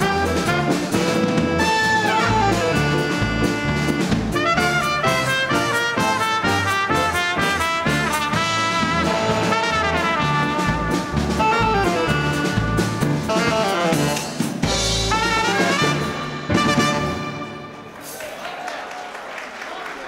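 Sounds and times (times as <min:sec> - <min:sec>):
drums and bass: 0:00.0 - 0:17.7
trumpets and trombones: 0:00.0 - 0:18.0
big band swing music: 0:00.0 - 0:18.4.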